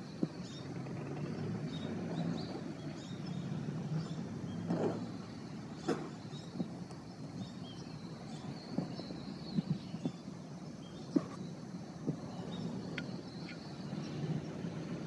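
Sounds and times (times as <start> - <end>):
distant aircraft engine droning: 0.0 - 15.0.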